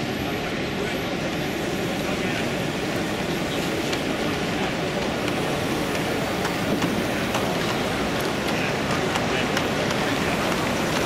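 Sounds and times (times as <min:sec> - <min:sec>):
hall crowd hubbub: 0:00.0 - 0:11.0
model train wheels clicking on rails: 0:00.0 - 0:11.0.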